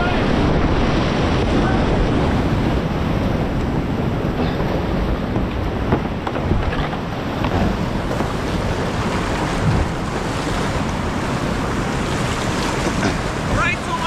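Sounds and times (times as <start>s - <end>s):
whitewater rushing: 0.0s - 14.0s
wind buffeting microphone: 0.0s - 14.0s.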